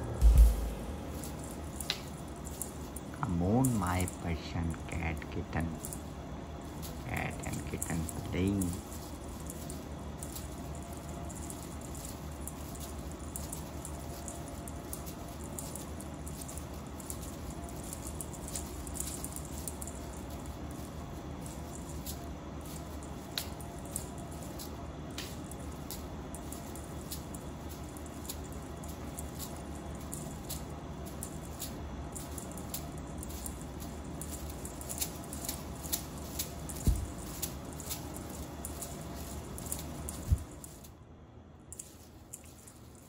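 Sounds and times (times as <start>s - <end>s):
tinsel toy clicks and crinkles: 0.0s - 41.0s, 41.6s - 43.0s
low hum: 0.0s - 43.0s.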